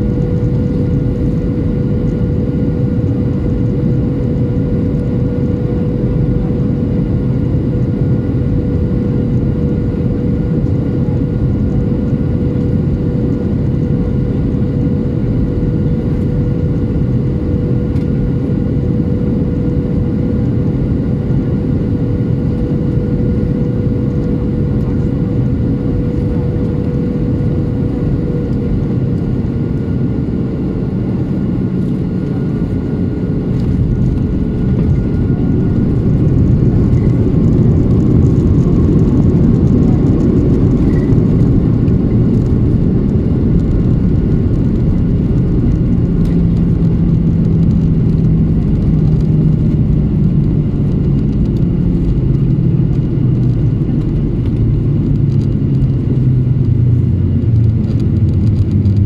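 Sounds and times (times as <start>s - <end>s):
airliner rumbling on runway: 0.0s - 59.0s
jet engine hum with whine: 0.0s - 59.0s.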